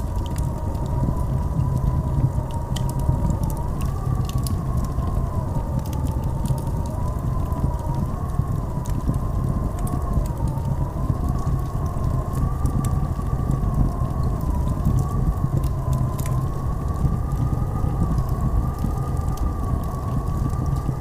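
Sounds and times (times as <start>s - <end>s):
wind howling and whistling: 0.0s - 21.0s.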